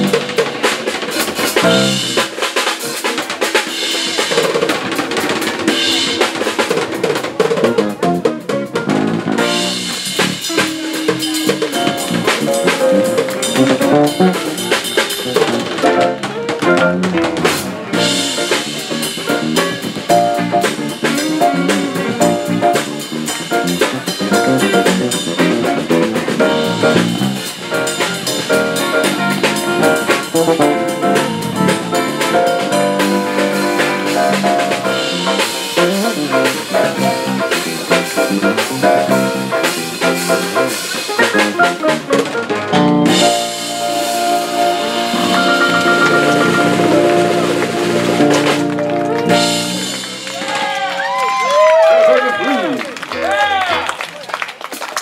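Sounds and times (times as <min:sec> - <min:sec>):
steady drum beat: 0:00.0 - 0:51.8
live band playing: 0:00.0 - 0:55.0.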